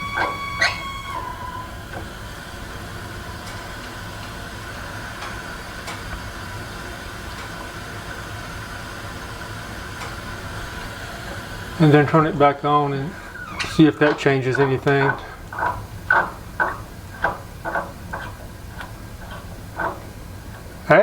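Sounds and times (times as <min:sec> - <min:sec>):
water flowing hiss: 0:00.0 - 0:21.0
water pipes squealing: 0:00.0 - 0:21.0.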